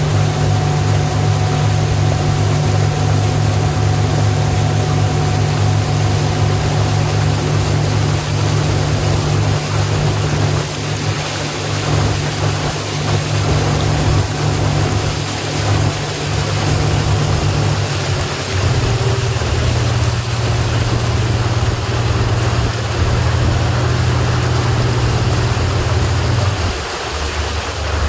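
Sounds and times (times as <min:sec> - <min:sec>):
boat diesel engine droning: 0:00.0 - 0:28.0.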